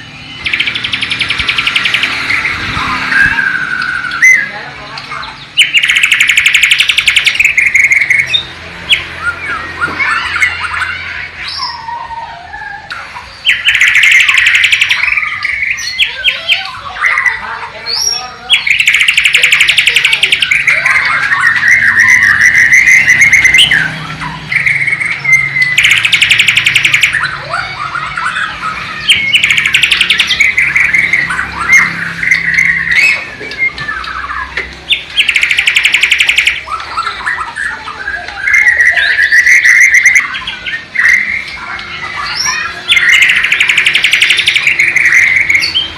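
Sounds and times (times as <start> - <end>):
songbird singing with rattling trills: 0.0 - 45.9.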